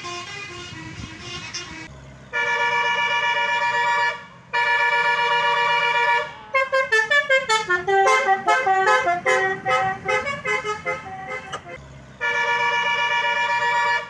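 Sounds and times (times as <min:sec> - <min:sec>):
bus horn blasts: 0:00.0 - 0:14.0
bus horn melodic notes: 0:00.0 - 0:14.0.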